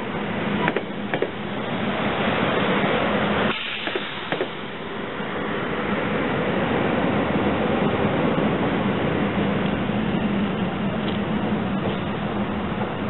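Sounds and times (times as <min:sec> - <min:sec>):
wheels rushing on rail: 0:00.0 - 0:13.0.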